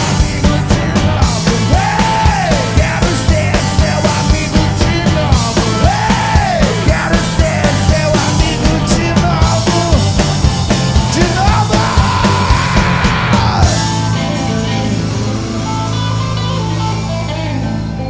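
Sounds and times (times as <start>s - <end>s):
person singing: 0.0s - 10.2s, 11.0s - 15.9s
rock band playing: 0.0s - 18.0s.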